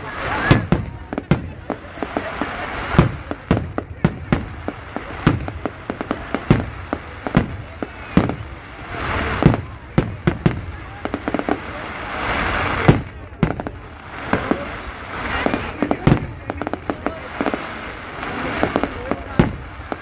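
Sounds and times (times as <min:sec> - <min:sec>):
fireworks bursting with bangs: 0:00.0 - 0:20.0.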